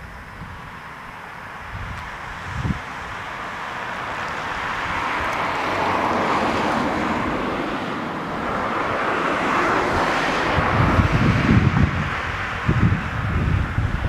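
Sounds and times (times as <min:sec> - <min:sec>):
rushing outdoor noise: 0:00.0 - 0:14.0
wind buffeting microphone: 0:00.0 - 0:14.0.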